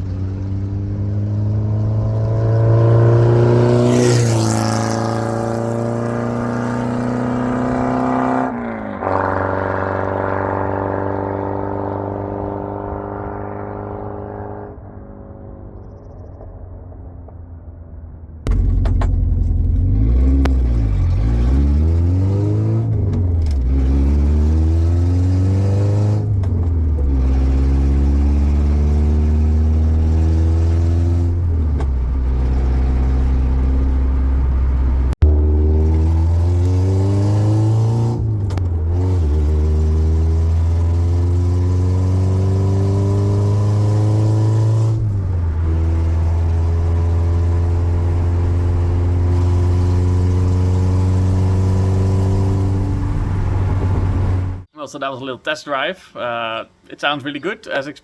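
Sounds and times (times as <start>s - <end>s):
car engine accelerating hard: 0.0s - 16.4s, 18.4s - 54.7s.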